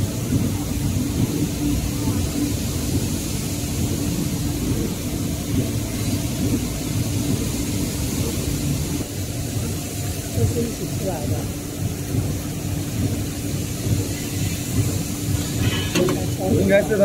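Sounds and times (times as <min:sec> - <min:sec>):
machinery hiss: 0:00.0 - 0:17.0
production line machinery drone: 0:00.0 - 0:17.0.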